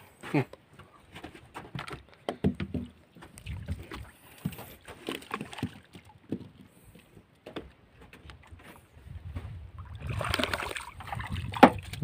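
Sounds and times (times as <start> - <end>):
water splashing around boat: 1.1 - 12.0.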